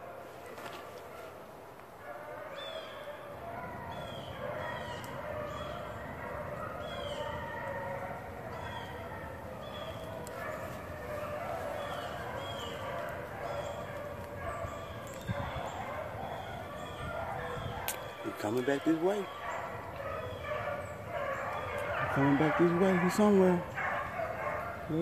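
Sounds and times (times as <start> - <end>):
hounds baying: 0.0 - 25.0.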